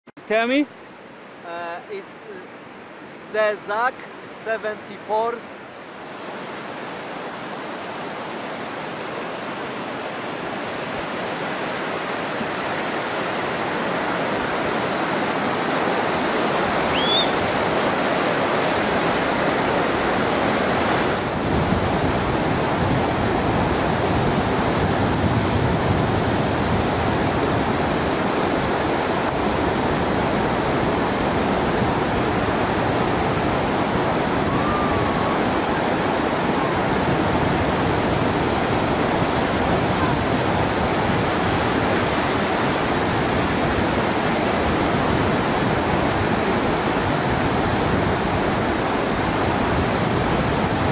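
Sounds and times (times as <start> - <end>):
ocean waves breaking: 0.3 - 50.9.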